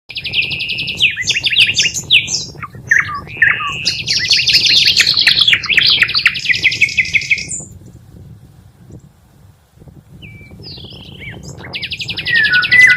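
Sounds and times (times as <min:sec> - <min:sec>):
birds chirping and trilling: 0:00.1 - 0:07.9, 0:10.2 - 0:12.9.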